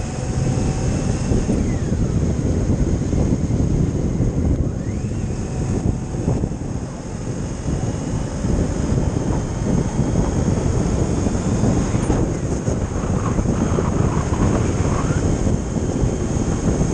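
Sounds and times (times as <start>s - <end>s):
motorcycle engine rumble: 0.0s - 16.9s
wind rushing over microphone: 0.0s - 16.9s.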